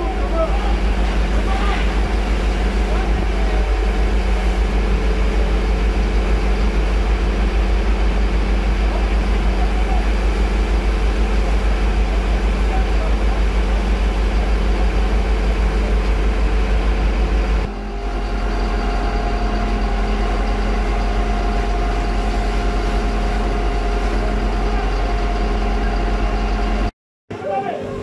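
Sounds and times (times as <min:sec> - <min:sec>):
fire engine running: 0:00.0 - 0:28.0.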